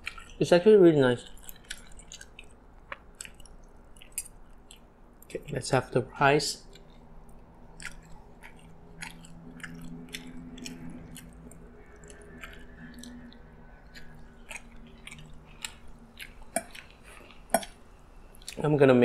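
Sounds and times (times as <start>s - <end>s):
chewing rice: 0.0s - 5.7s, 6.5s - 18.8s
faint low hum: 0.0s - 19.0s.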